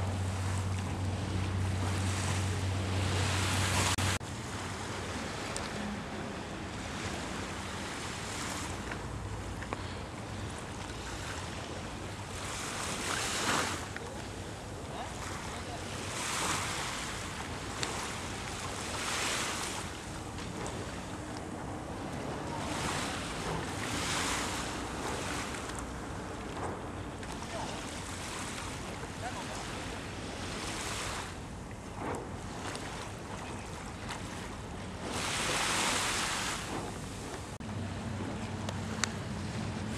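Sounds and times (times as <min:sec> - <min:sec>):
small waves washing onto beach: 0:00.0 - 0:39.9
wind rumble on microphone: 0:00.0 - 0:39.9.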